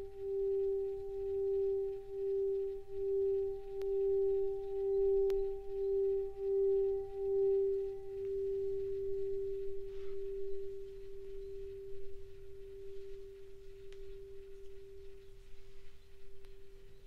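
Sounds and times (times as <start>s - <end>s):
singing bowl ringing: 0.0s - 16.1s.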